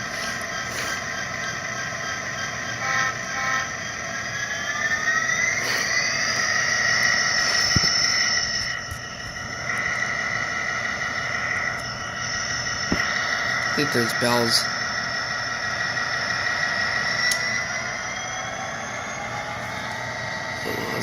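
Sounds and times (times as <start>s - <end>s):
diesel engine sound from small speaker: 0.0s - 21.0s.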